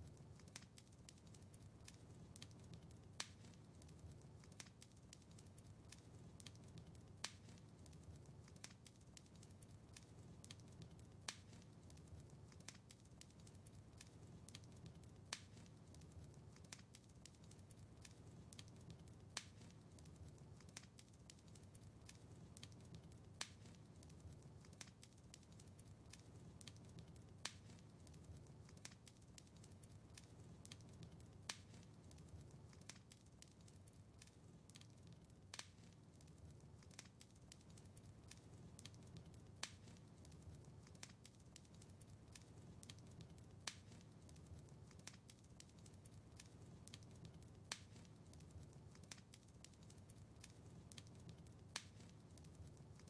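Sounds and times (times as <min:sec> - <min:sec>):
low rumble of flames: 0:00.0 - 0:53.0
wood fire crackling: 0:00.0 - 0:53.0.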